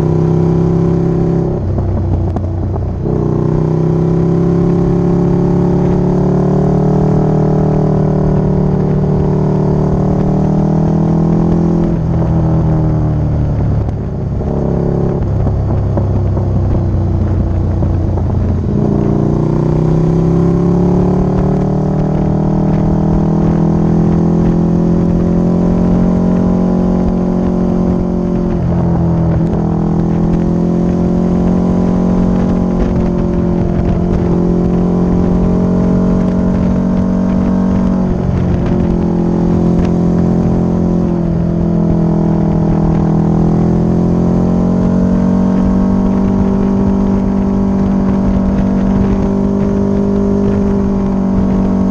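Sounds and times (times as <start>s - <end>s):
low wind rumble: 0.0s - 51.9s
motorcycle engine revving: 0.0s - 51.9s.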